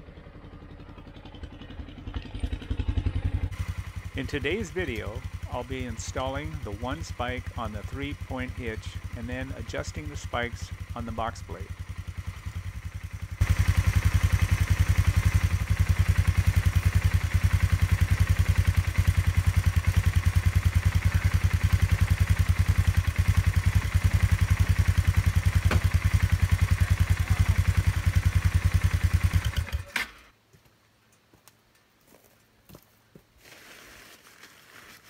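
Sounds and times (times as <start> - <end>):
engine idling with low chugging: 0.0 - 29.8.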